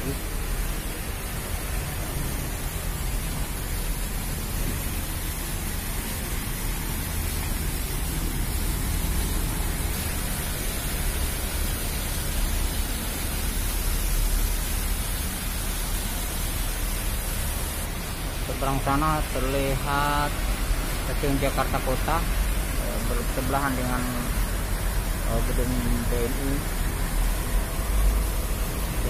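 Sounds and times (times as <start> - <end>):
even hiss: 0.0 - 29.0.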